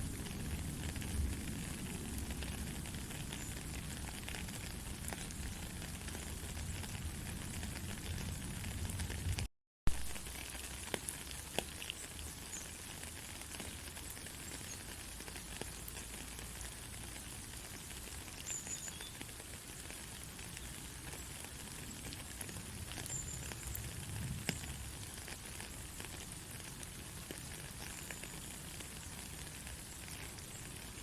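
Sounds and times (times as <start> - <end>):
gentle rain falling: 0.0 - 31.0.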